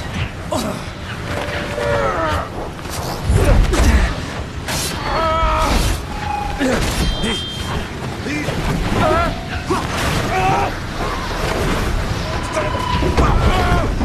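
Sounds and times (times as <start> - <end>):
metal creaking and scraping: 0.0 - 14.0
rushing wind: 0.0 - 14.0
train noise: 0.0 - 14.0.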